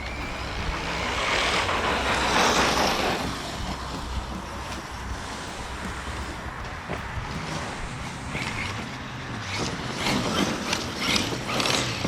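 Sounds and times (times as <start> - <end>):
rc truck motor and tyres: 0.0 - 12.0.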